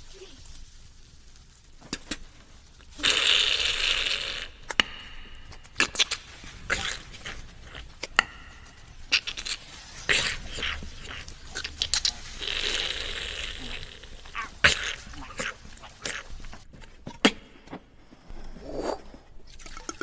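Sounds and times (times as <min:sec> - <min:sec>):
beatbox frying hiss: 0:00.0 - 0:16.7.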